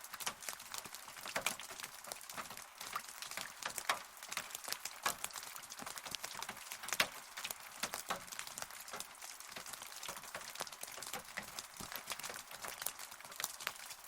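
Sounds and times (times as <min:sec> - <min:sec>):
rain hiss: 0:00.0 - 0:14.0
raindrops striking close by: 0:00.0 - 0:14.0.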